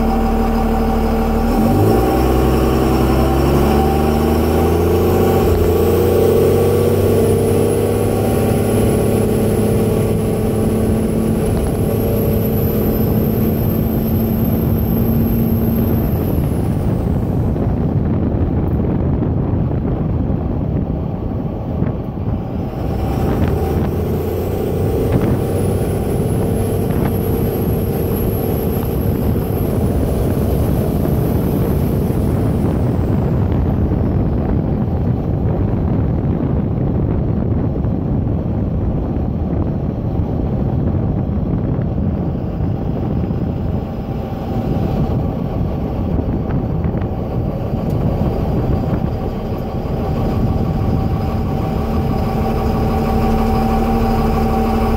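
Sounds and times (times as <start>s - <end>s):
diesel engine: 0.0s - 54.9s
road noise: 0.0s - 54.9s.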